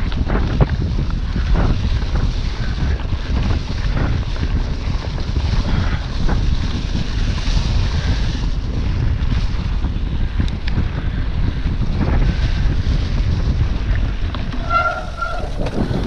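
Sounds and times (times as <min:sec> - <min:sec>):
bike rattles and knocks: 0:00.0 - 0:16.0
bike tyres rumbling on dirt: 0:00.0 - 0:16.0
wind rush on microphone: 0:00.0 - 0:16.0.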